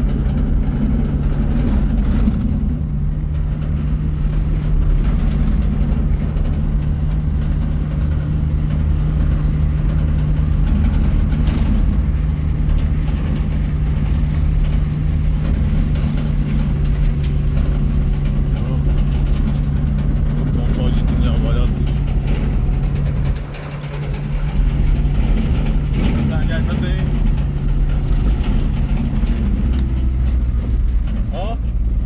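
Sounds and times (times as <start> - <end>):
road noise: 0.0 - 32.0
vehicle engine running: 0.0 - 32.0.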